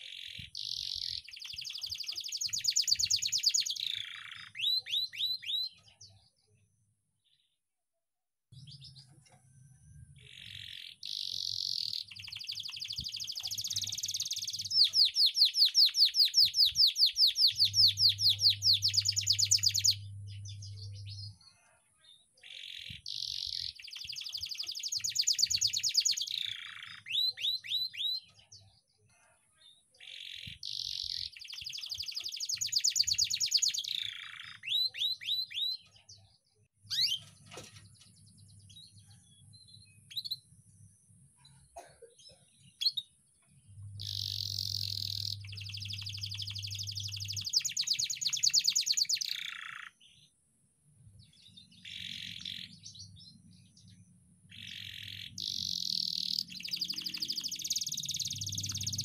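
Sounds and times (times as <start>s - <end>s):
canary singing trills: 0.0s - 6.4s, 8.6s - 28.9s, 29.6s - 36.2s, 36.8s - 41.6s, 42.3s - 50.4s, 51.0s - 59.0s.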